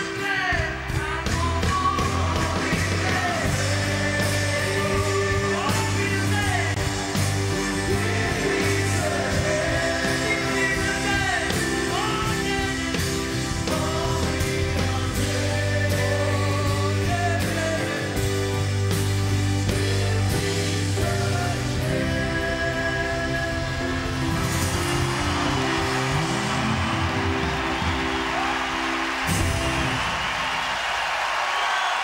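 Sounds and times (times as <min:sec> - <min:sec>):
person singing: 0:00.0 - 0:18.8, 0:19.7 - 0:27.4
rock band playing: 0:00.0 - 0:32.0.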